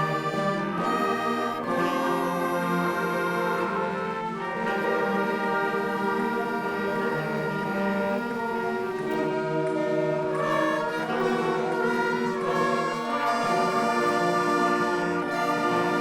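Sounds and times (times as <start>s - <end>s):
concert band sustained chords: 0.0s - 16.0s.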